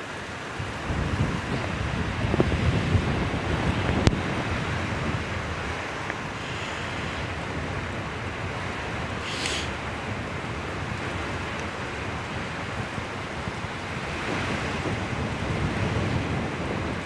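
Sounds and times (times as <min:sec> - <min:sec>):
light rain: 0:00.0 - 0:17.0
storm wind buffeting microphone: 0:00.0 - 0:17.0.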